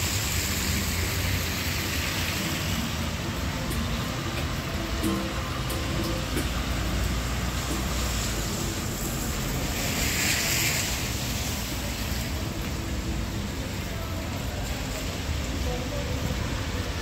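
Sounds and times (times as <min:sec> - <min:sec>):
low traffic rumble: 0:00.0 - 0:17.0
tyres hissing on wet asphalt: 0:00.0 - 0:17.0.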